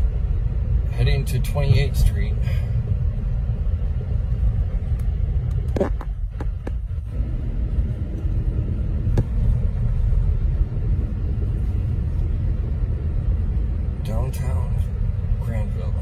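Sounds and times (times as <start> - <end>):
car driving on snow: 0.0 - 16.0.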